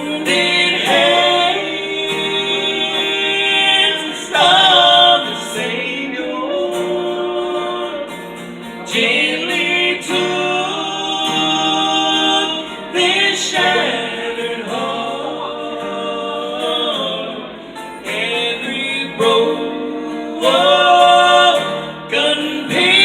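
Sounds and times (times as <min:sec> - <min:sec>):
gospel singing: 0:00.0 - 0:23.0.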